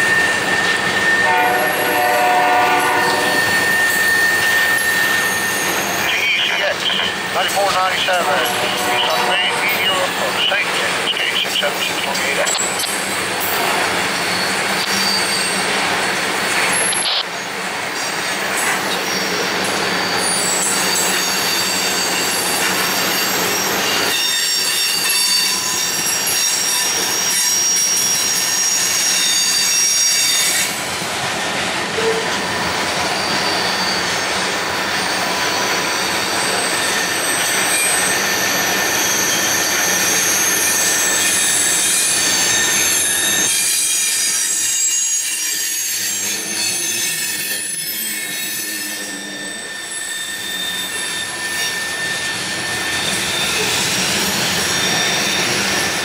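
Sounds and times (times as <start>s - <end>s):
train wheels squealing on rails: 0.0s - 56.0s.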